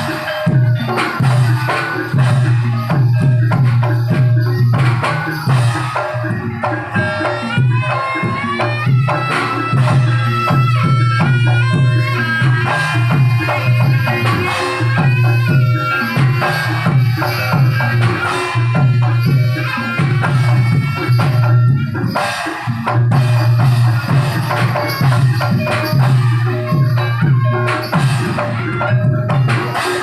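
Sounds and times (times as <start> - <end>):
drums driving beat: 0.0 - 30.0.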